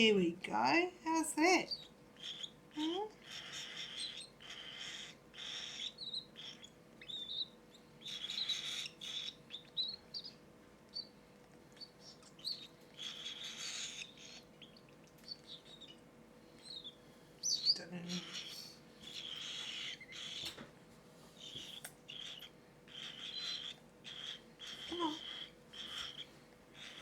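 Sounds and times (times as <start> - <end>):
chicks hissing begging calls: 1.1 - 11.2, 11.8 - 20.6, 21.4 - 27.0.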